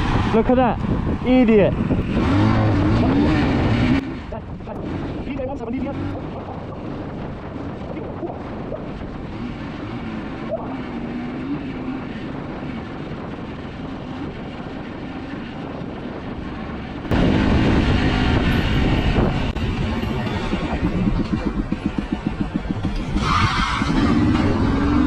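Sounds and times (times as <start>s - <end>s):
motorcycle engine drone: 0.0s - 25.0s
wind and road noise: 0.0s - 25.0s.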